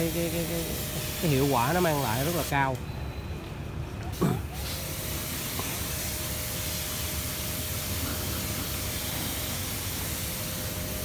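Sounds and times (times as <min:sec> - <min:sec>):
pressure washer spray hissing: 0:00.0 - 0:02.8, 0:04.5 - 0:11.0.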